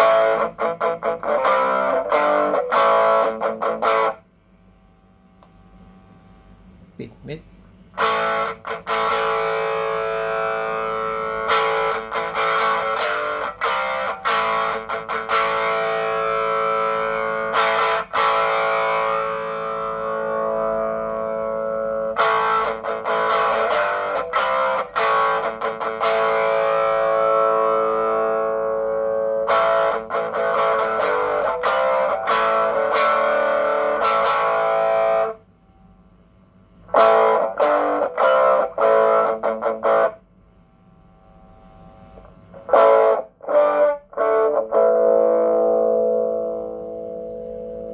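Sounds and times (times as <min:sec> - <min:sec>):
overdriven electric guitar: 0:00.0 - 0:04.2, 0:07.9 - 0:35.4, 0:36.9 - 0:40.2, 0:41.7 - 0:47.9.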